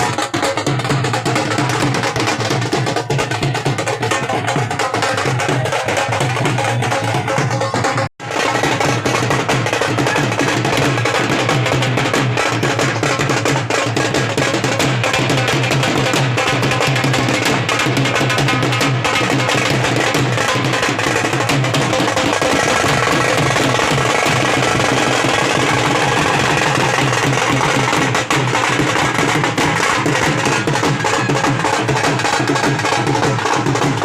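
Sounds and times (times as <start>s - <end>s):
fast dense drumming: 0.0s - 34.0s.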